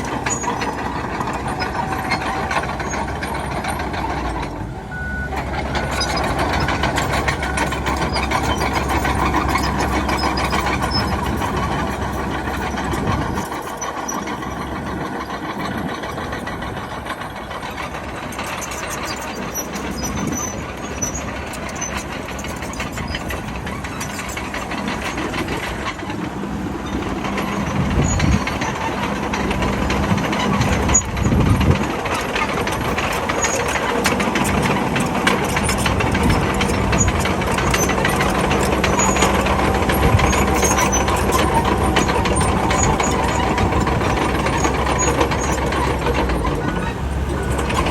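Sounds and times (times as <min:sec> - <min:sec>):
bulldozer diesel engine: 0:00.0 - 0:47.9.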